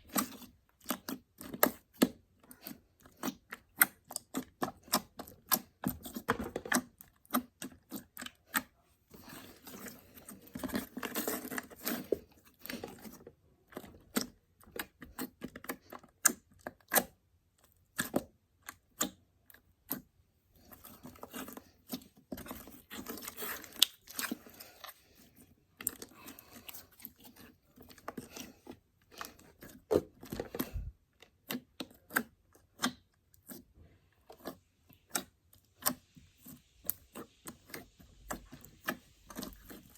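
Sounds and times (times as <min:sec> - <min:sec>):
slime squelching: 0:00.0 - 0:39.9.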